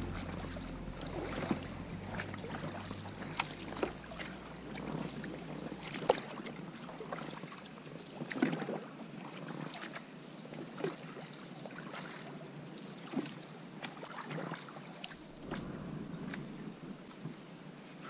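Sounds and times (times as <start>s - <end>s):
water splashing and lapping: 0.0s - 17.8s.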